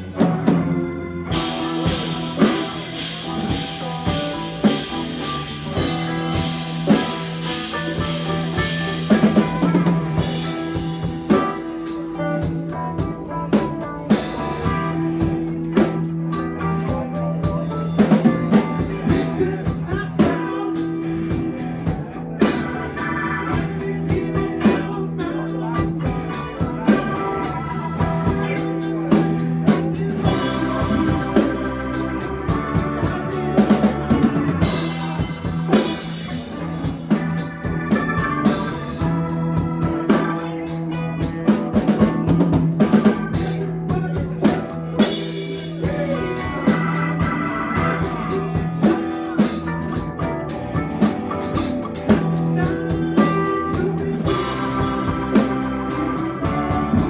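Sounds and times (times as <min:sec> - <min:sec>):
live band playing: 0:00.0 - 0:57.0
drum kit beat: 0:00.1 - 0:57.0.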